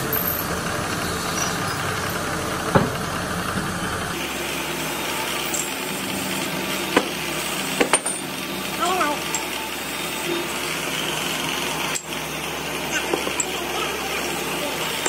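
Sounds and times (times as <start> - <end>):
buffing machine running: 0.0 - 15.0.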